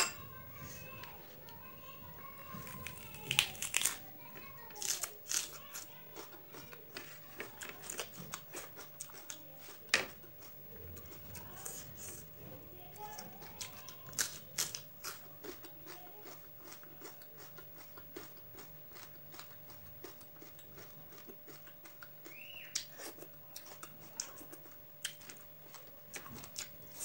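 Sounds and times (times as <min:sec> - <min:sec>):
person chewing food: 0:00.3 - 0:27.0.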